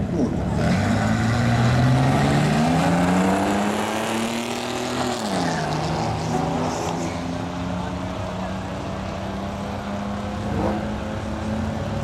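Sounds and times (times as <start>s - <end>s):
car engine revving: 0.1s - 12.0s.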